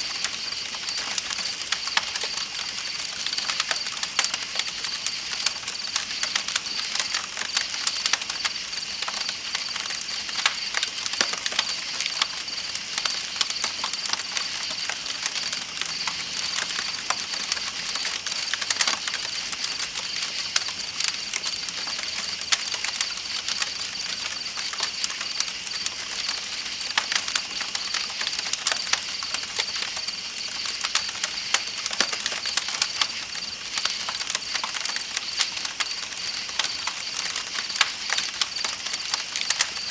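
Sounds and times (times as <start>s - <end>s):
campfire crackling and popping: 0.0s - 39.9s
night insects trilling: 0.0s - 39.9s.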